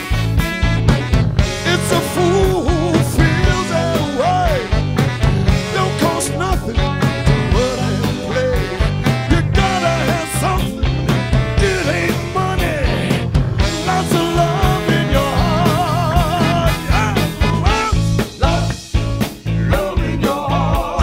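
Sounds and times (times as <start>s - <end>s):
saxophone section: 0.0s - 19.3s
drum beat: 0.0s - 21.0s
electric bass: 0.0s - 21.0s
electric guitars: 0.0s - 21.0s
male singer: 1.6s - 4.8s, 5.5s - 21.0s.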